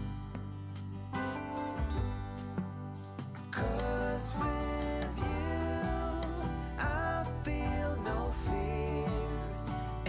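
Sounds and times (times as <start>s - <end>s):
slow song with plucked guitar: 0.0s - 10.0s.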